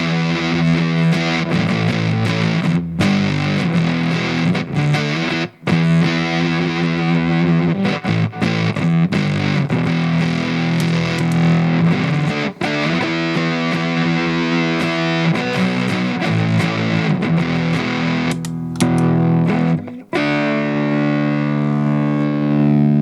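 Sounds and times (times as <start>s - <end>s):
fuzz electric guitar: 0.0s - 23.0s.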